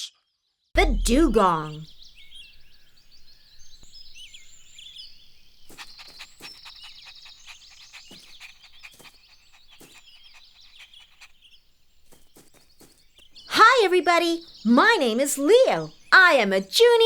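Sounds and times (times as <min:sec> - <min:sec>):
rapid high bird trill: 0:00.8 - 0:16.6
small birds chirping: 0:00.8 - 0:17.0.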